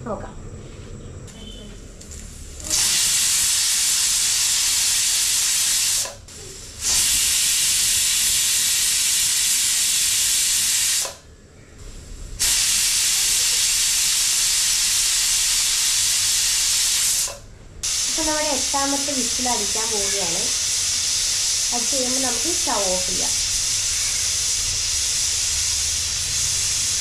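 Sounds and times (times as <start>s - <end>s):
pressure cooker steam hissing: 2.6s - 11.2s, 12.3s - 27.0s.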